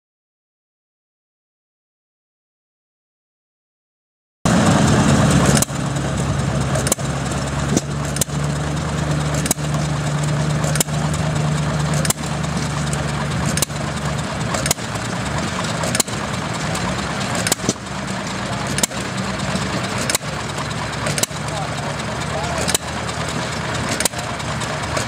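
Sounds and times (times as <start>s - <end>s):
engine humming: 4.5s - 25.0s
engine popping: 4.5s - 25.0s.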